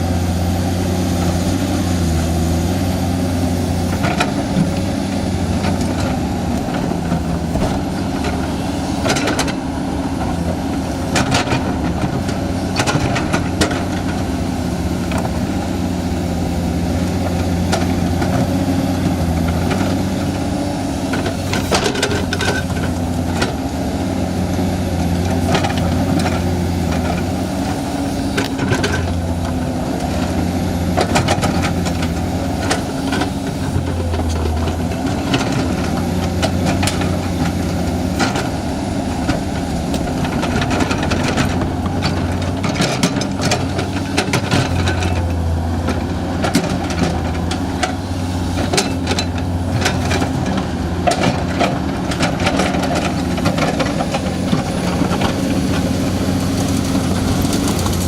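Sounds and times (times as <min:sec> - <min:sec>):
excavator diesel engine running: 0:00.0 - 0:58.0
knocks and clanks of digging: 0:03.7 - 0:15.9, 0:16.7 - 0:58.0.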